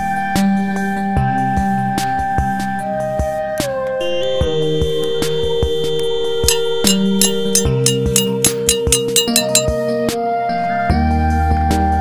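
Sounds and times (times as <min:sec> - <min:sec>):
background music with tapping beat: 0:00.0 - 0:10.4.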